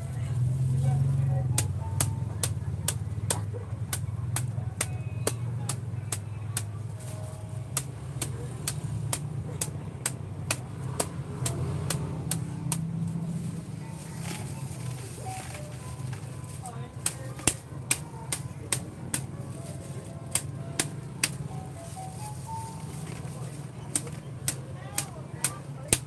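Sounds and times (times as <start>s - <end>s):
bus engine idling: 0.0s - 26.0s.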